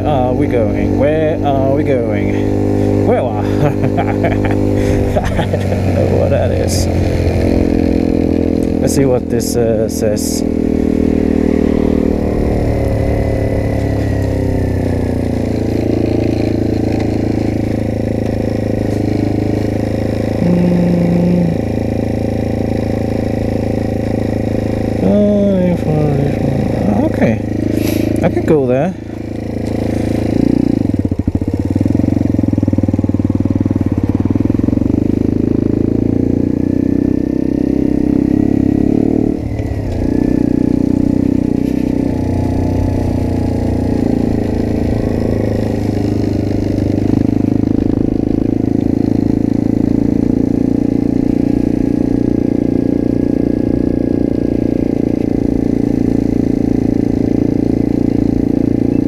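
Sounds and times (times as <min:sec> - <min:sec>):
minibike engine running: 0:00.0 - 0:59.0.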